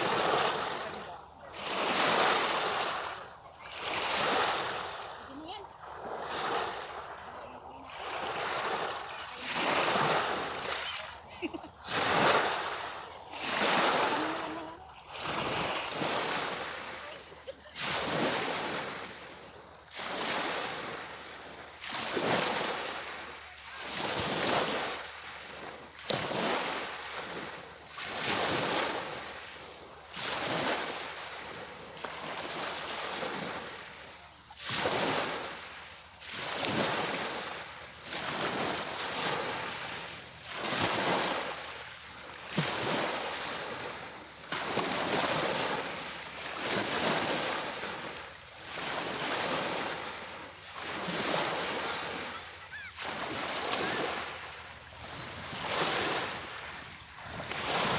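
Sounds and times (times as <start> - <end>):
small waves washing onto beach: 0.0 - 57.9.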